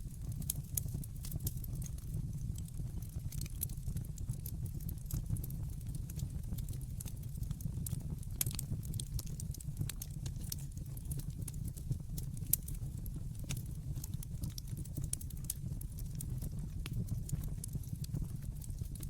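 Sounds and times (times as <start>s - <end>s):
fire crackling and popping: 0.0s - 19.0s
low rumble of burning fire: 0.0s - 19.0s.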